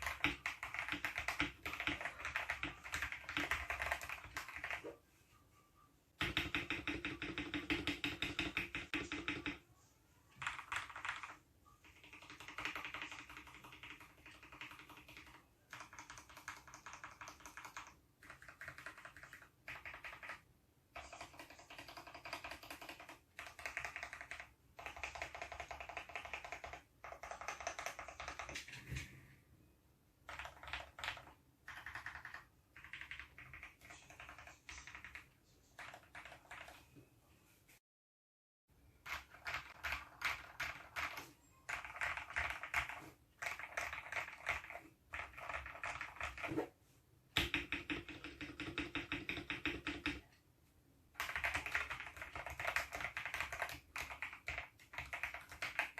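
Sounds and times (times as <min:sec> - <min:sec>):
mechanical keyboard typing: 0:00.0 - 0:05.0, 0:06.2 - 0:09.6, 0:10.4 - 0:29.0, 0:30.2 - 0:36.8, 0:39.0 - 0:46.7, 0:47.4 - 0:50.3, 0:51.2 - 0:55.9.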